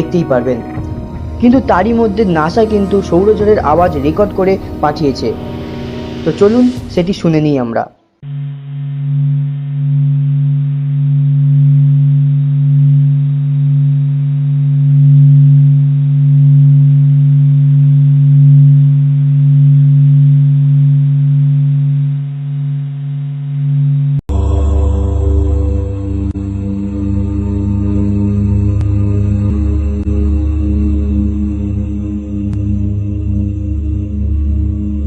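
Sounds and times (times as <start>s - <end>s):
low hum with higher tones: 0.0s - 35.0s.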